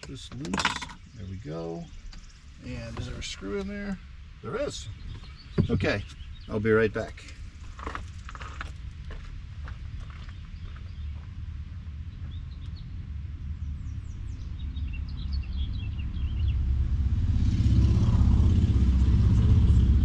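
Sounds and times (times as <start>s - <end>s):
small birds chirping: 0.0s - 16.8s
vehicle engine rumble: 0.0s - 20.0s.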